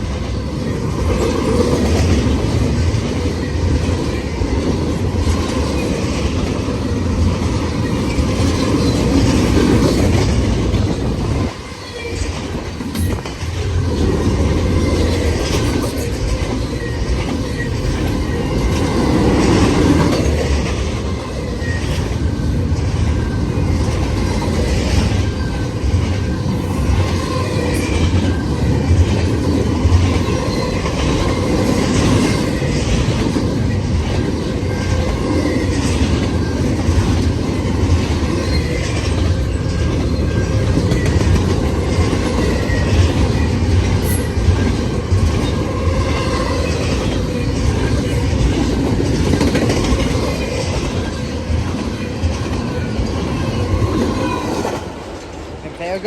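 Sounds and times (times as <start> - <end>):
train wheels rumbling on rail: 0.0 - 56.0
wheels clicking over rail joints: 0.2 - 56.0.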